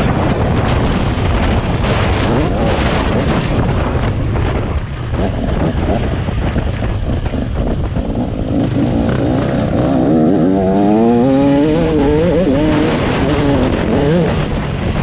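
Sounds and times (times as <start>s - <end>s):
motocross bike engine revving: 0.0s - 14.7s.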